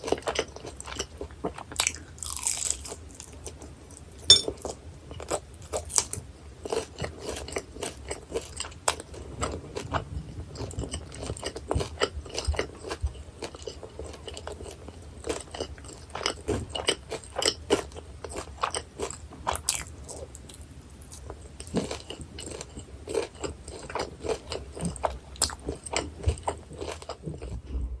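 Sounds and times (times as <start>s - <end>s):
crisp crunching of fried food: 0.0s - 27.7s
chewing: 0.0s - 28.0s.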